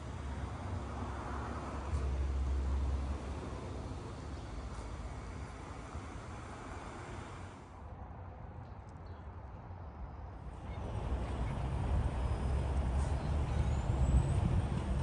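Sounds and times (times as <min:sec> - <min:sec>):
low uneven street rumble: 0:00.0 - 0:15.0.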